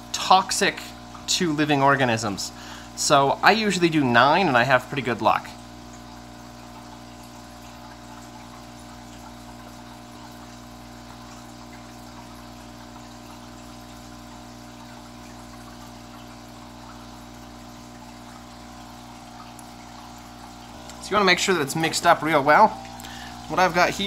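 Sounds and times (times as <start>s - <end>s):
aquarium equipment humming: 0.0s - 24.0s
water trickling: 0.0s - 24.0s.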